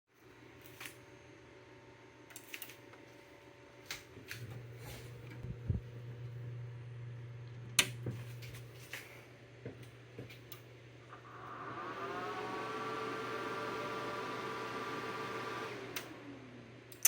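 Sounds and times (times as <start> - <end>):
computer fan buzzing hum: 0.2 - 17.0.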